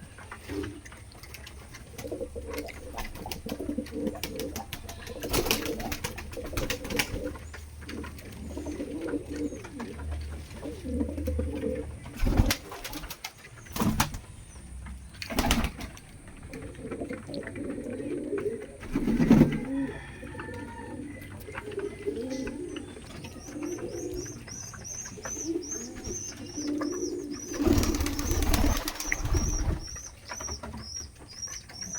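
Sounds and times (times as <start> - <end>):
pigeons cooing: 0.0 - 14.7, 15.3 - 31.9.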